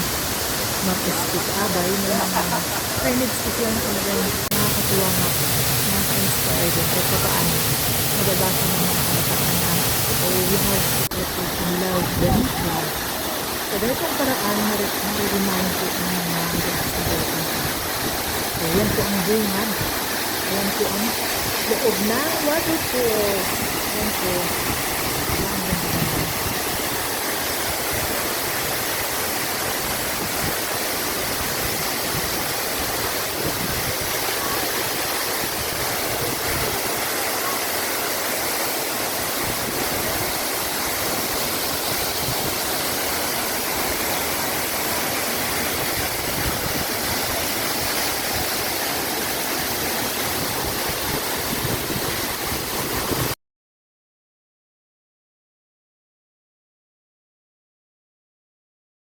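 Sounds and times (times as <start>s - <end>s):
waterfall rushing: 0.0s - 53.4s.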